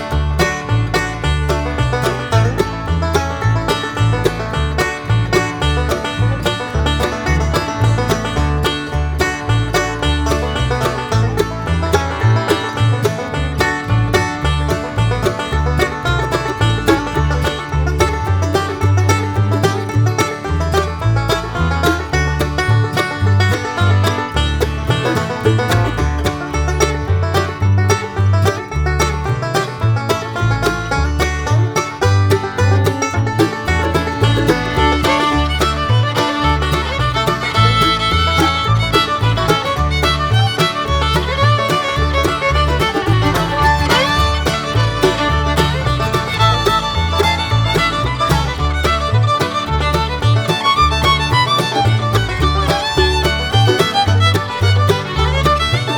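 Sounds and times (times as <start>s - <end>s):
banjo picking: 0.0s - 55.9s
fiddle: 0.0s - 55.9s
guitar: 0.0s - 55.9s
steady bass beat: 0.0s - 55.9s.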